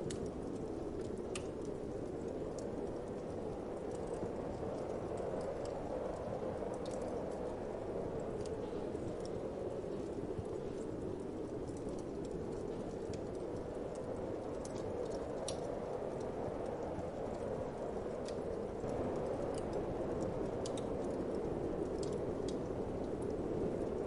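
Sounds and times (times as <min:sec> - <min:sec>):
rushing wind: 0:00.0 - 0:24.0
wood fire crackling: 0:00.0 - 0:24.0.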